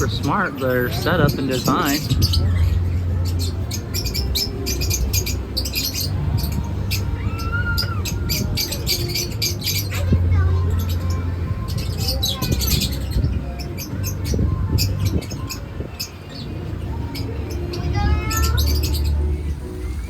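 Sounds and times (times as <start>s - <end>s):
birds squawking and chirping: 0.0s - 20.0s.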